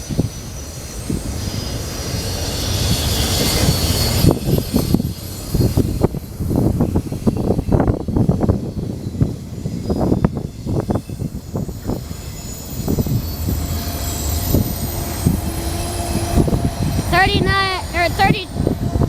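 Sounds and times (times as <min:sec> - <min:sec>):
high wheel squeal: 0:00.0 - 0:19.0
train wheels clattering over rails: 0:00.0 - 0:19.0.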